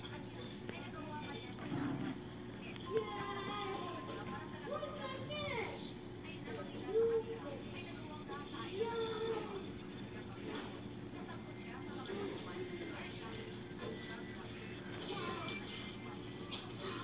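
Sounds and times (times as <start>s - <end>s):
faint indistinct voices: 0.0s - 17.0s.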